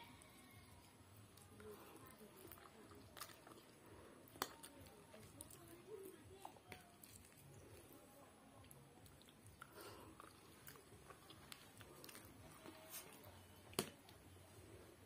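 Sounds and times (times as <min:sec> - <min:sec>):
person chewing noodles: 0:00.1 - 0:08.0, 0:08.6 - 0:13.8.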